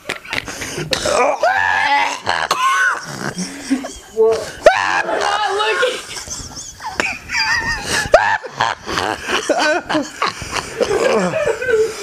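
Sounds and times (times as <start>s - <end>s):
people laughing hard: 1.2s - 12.0s.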